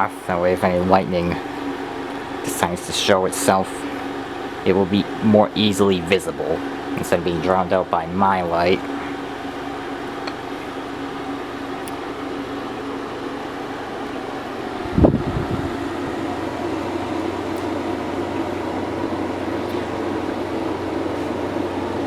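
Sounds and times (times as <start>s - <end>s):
air conditioner fan hum: 0.0s - 22.0s.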